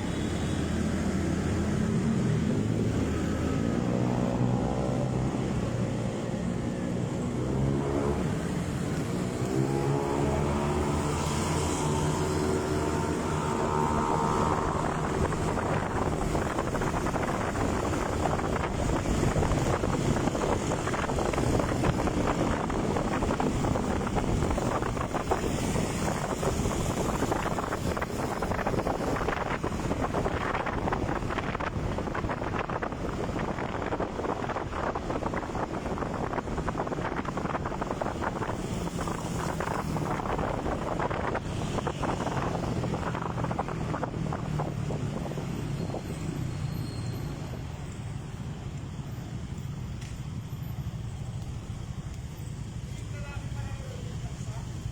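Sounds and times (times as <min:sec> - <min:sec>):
wind buffeting microphone: 0:00.0 - 0:46.7.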